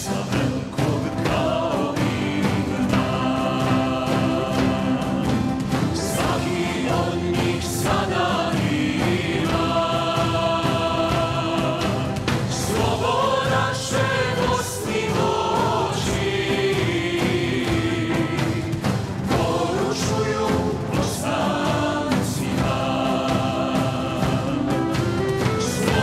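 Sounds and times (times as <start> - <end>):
choir singing long held notes: 0.0 - 26.0.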